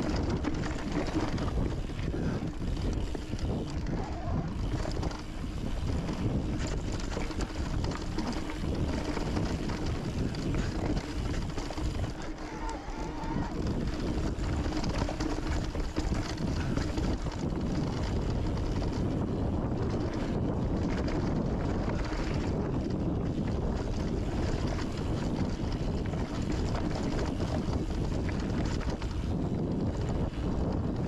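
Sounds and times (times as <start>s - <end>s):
bike tyres rattling on dirt: 0.0s - 31.0s
wind rush on microphone: 0.0s - 31.0s.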